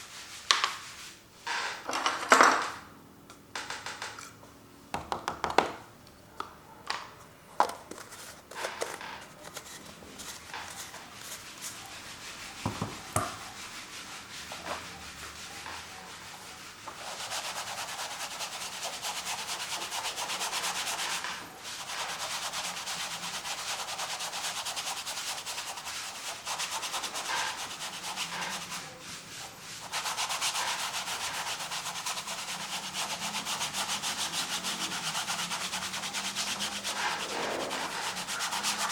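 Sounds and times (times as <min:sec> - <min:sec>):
paint scrubbing on canvas: 0:00.0 - 0:01.2, 0:08.0 - 0:38.9.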